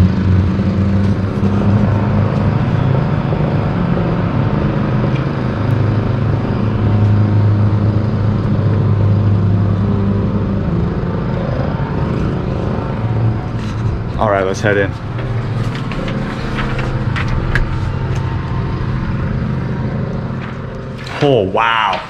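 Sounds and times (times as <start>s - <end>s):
engine rumbling with a hum: 0.0s - 22.0s.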